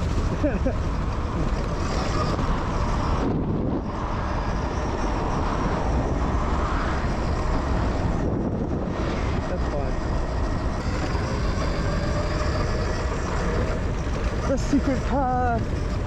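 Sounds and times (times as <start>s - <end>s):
electric motorbike whir: 0.0s - 16.0s
wind noise on microphone: 0.0s - 16.0s.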